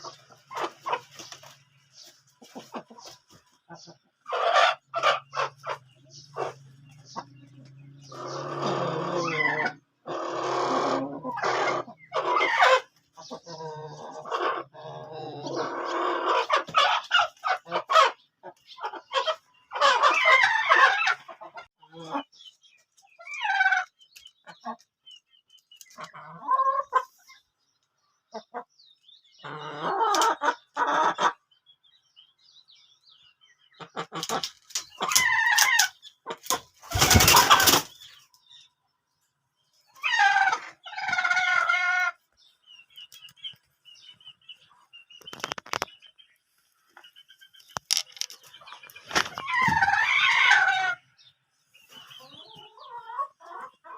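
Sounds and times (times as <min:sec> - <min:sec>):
hens clucking and squawking: 0:00.0 - 0:31.6, 0:33.3 - 0:38.7, 0:39.7 - 0:53.9.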